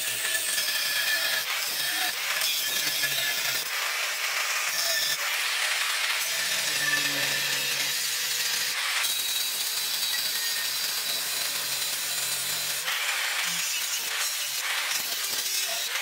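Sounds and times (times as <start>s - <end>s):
grinder disc cutting steel: 0.0s - 16.0s
grinder motor hum: 2.0s - 16.0s.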